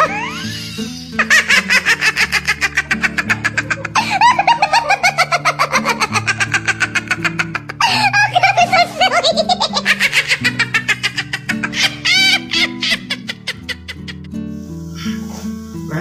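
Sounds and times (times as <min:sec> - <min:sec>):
man laughing hard: 0:00.0 - 0:14.4.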